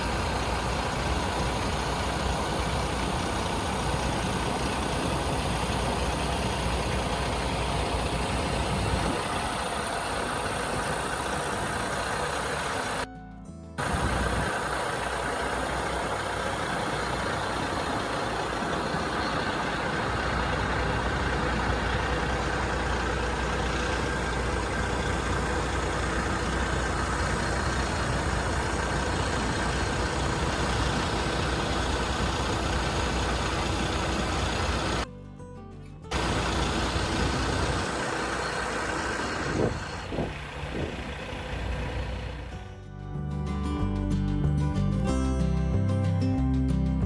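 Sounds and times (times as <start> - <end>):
heavy farm machinery engine running: 0.0 - 13.1, 13.8 - 35.1, 36.1 - 42.8.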